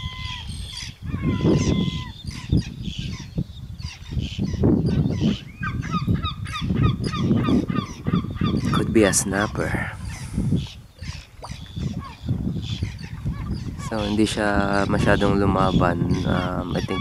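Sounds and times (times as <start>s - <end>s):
birds honking calls: 0.0s - 17.0s.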